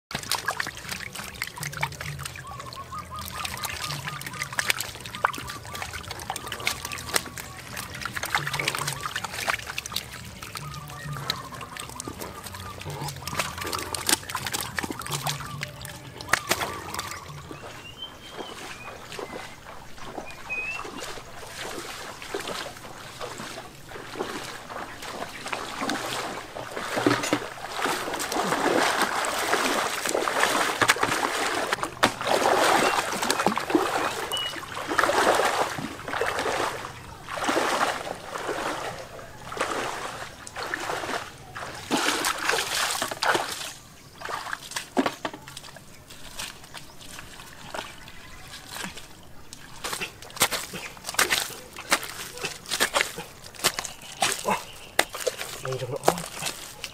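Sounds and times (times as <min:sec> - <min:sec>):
muddy water splashing: 0:00.1 - 0:56.9.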